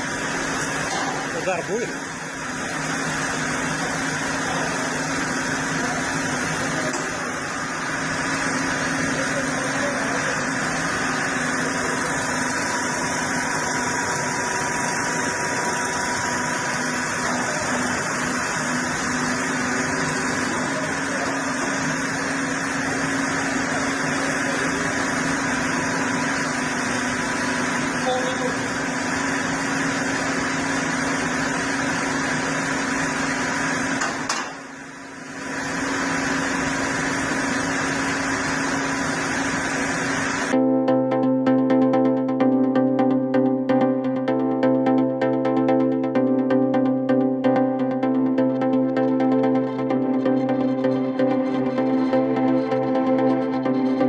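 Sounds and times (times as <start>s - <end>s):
sawmill machinery humming: 0.0s - 40.6s, 41.2s - 54.0s.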